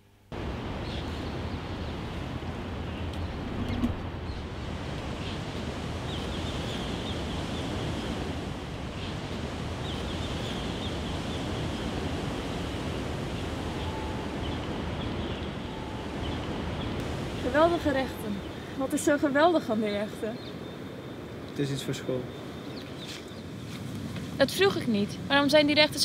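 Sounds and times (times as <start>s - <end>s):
birds chirping: 0.7s - 23.7s.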